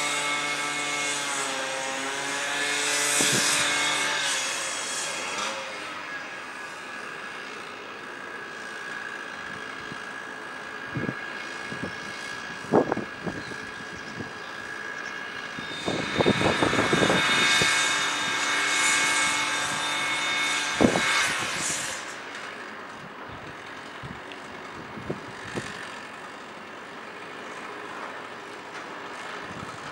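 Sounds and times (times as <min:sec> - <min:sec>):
power tool whining on brick: 0:00.0 - 0:29.9.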